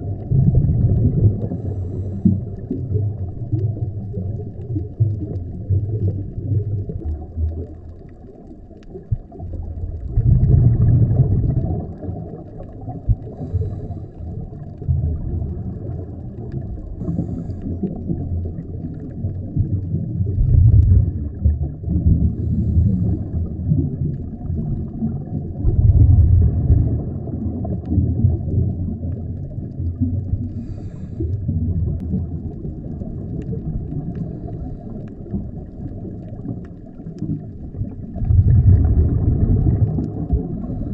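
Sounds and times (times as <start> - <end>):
underwater regulator bubbles: 0.0 - 40.9.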